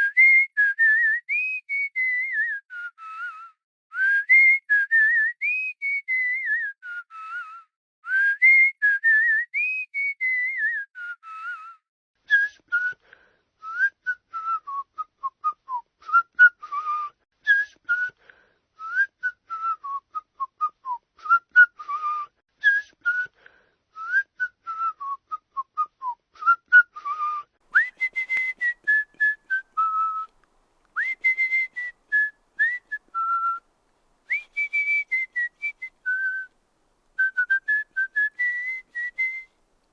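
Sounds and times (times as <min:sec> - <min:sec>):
person whistling: 0:00.0 - 0:13.0, 0:13.6 - 0:23.4, 0:24.0 - 0:30.3, 0:31.0 - 0:33.6, 0:34.3 - 0:36.5, 0:37.2 - 0:39.6.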